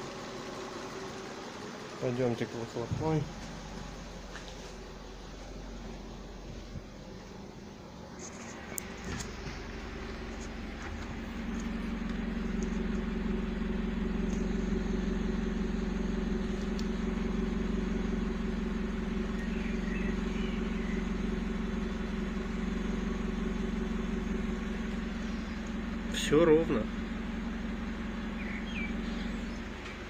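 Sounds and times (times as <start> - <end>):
car exhaust idling: 0.0 - 30.0.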